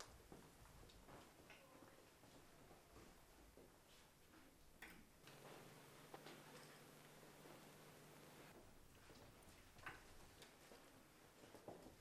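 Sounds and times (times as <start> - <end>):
faint clicks and rustles: 0.0 - 12.0.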